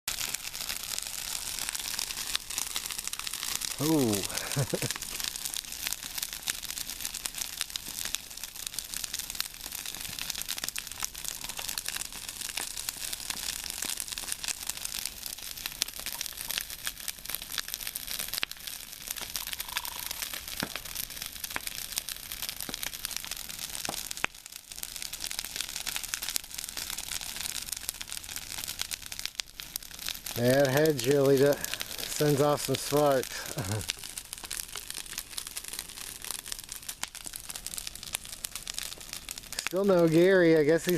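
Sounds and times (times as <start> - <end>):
fire of branches crackling: 0.0 - 40.9
fire hissing: 0.1 - 40.9.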